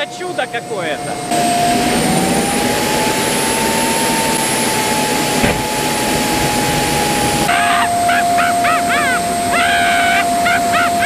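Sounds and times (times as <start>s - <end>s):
jet engine roar with whine: 0.0s - 11.0s.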